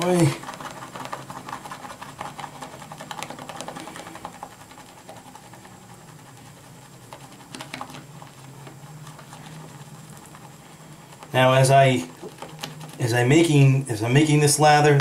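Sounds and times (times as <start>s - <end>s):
shaving brush whipping lather: 0.0s - 14.9s.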